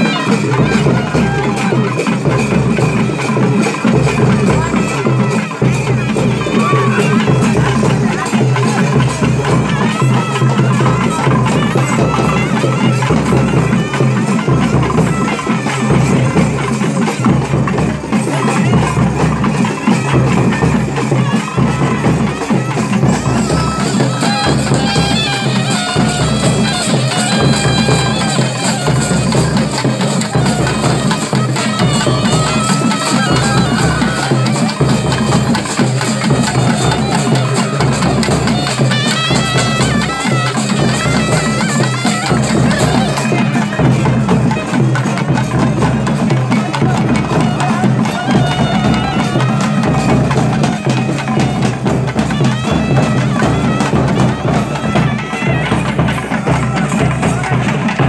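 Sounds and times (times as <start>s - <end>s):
drum beat: 0.0s - 58.0s
reedy wind instrument melody: 0.0s - 58.0s.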